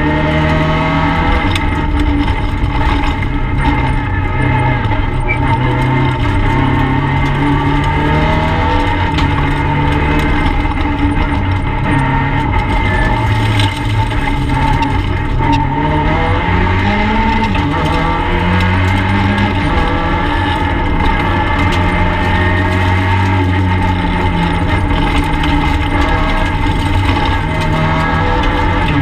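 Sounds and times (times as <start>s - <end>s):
rally car engine from cabin: 0.0s - 29.0s.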